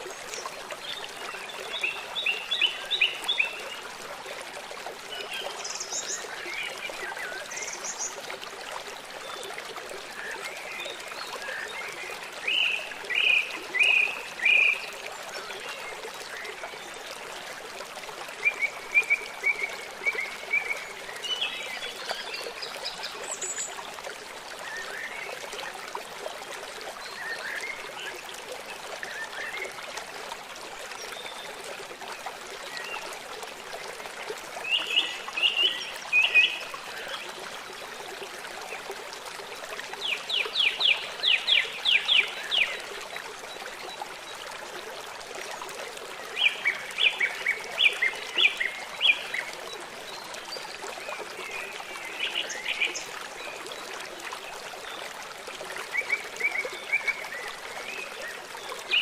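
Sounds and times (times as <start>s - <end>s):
forest stream rushing: 0.0s - 59.0s.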